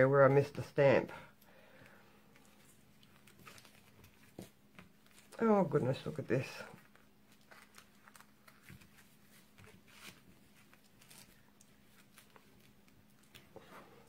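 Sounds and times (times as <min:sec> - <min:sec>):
low steady hum: 0:00.0 - 0:14.0
ribbon and card rustling: 0:02.3 - 0:14.0.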